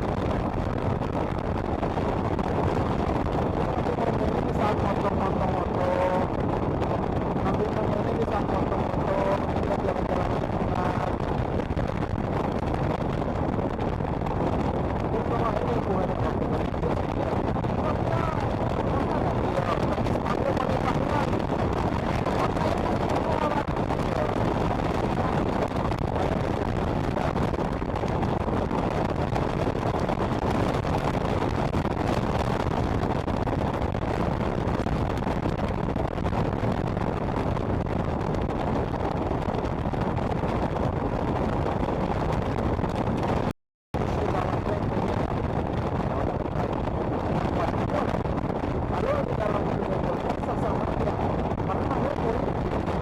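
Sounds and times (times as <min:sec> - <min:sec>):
road noise: 0:00.0 - 0:43.4
wind on microphone: 0:00.0 - 0:53.0.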